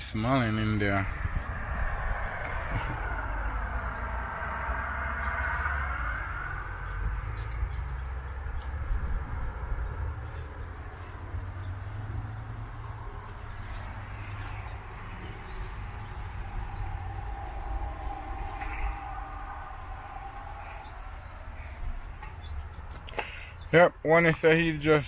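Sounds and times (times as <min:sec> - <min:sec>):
low rumble: 0:00.0 - 0:10.9, 0:12.8 - 0:22.9
high-pitched insect chorus: 0:00.0 - 0:25.0.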